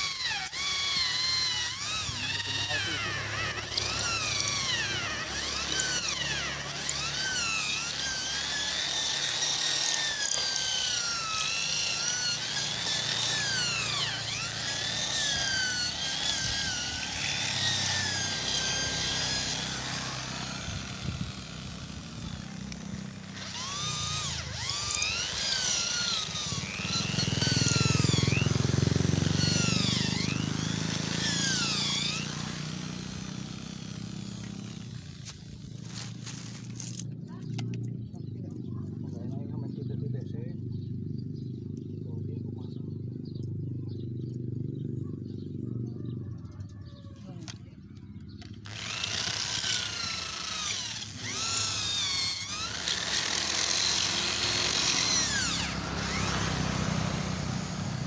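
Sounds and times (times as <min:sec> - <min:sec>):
electric drill boring into concrete: 0:00.0 - 0:37.8, 0:48.4 - 0:58.0.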